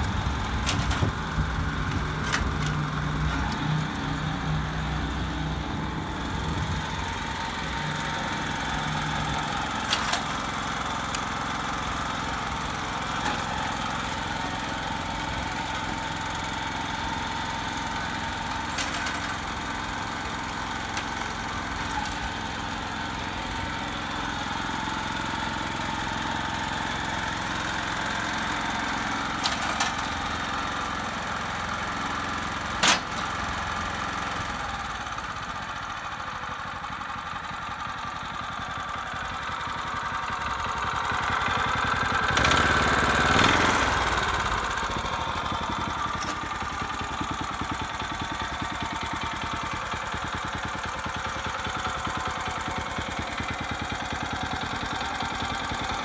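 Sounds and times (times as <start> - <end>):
tiller engine running: 0.0 - 56.0.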